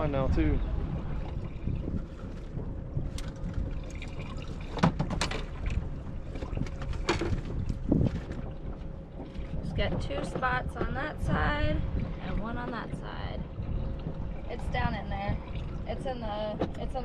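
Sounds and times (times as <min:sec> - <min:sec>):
low wind rumble on microphone: 0:00.0 - 0:17.0
water lapping against boat hull: 0:00.0 - 0:17.0.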